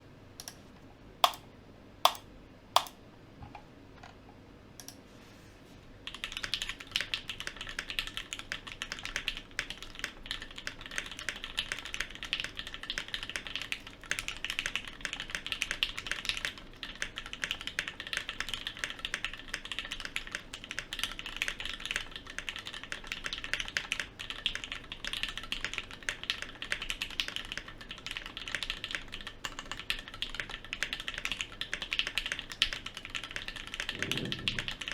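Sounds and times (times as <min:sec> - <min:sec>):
mechanical keyboard typing: 0:01.2 - 0:01.4, 0:02.1 - 0:03.0, 0:06.1 - 0:34.9.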